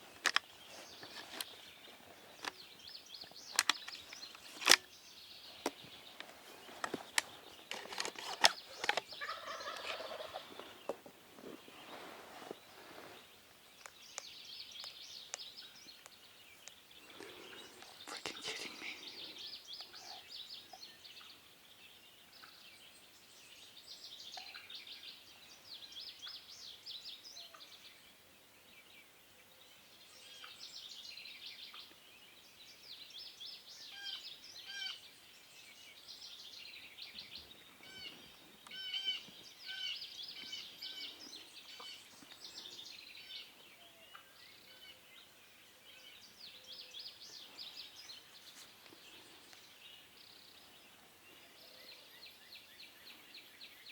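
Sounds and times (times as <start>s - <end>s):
birds singing and chirping: 0.0s - 53.9s.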